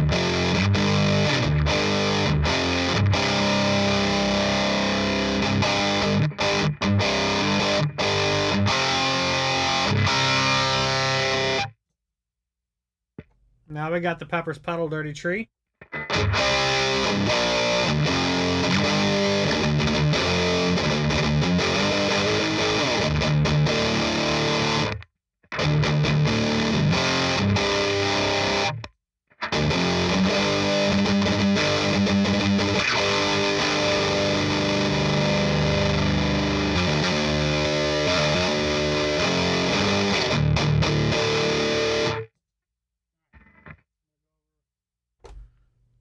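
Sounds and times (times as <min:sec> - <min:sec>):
distorted electric guitar riffing: 0:00.0 - 0:11.7, 0:15.8 - 0:25.0, 0:25.6 - 0:28.8, 0:29.4 - 0:42.3.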